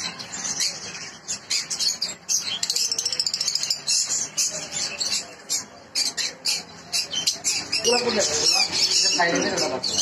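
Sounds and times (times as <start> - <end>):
small parrots chirping and chattering: 0.0 - 10.0.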